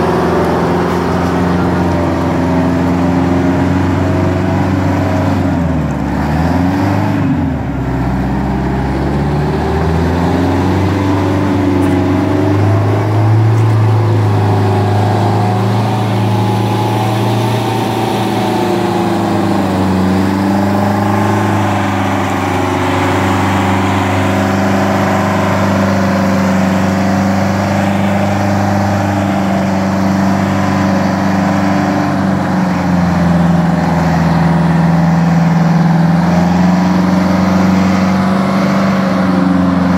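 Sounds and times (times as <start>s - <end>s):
wheel loader diesel engine: 0.0s - 39.9s.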